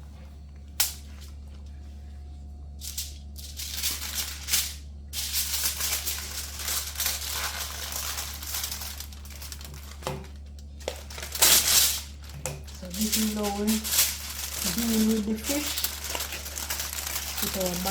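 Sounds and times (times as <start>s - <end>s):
steady low hum: 0.0s - 17.9s
aluminium foil crinkling: 2.7s - 17.9s.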